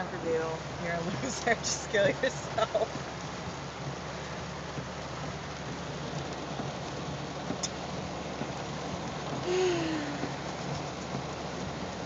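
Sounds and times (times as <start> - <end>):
heavy rain on a car roof: 0.0 - 12.0.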